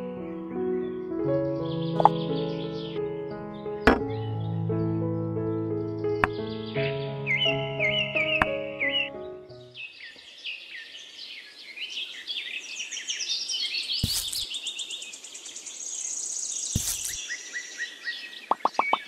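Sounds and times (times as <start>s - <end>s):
birds chirping and trilling: 0.9s - 19.0s.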